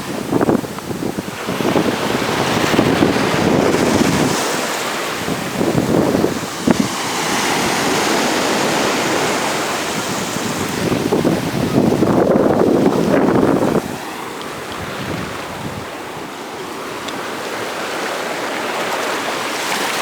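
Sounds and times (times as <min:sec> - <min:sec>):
wind buffeting microphone: 0:00.0 - 0:18.3
sea waves breaking on beach: 0:00.0 - 0:20.0.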